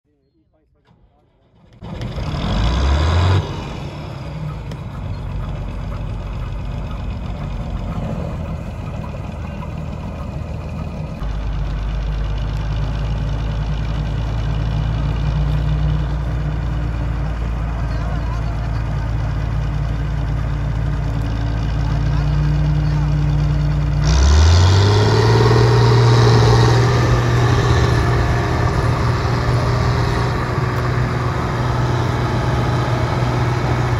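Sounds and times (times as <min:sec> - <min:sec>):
diesel engine humming: 0:01.1 - 0:33.9.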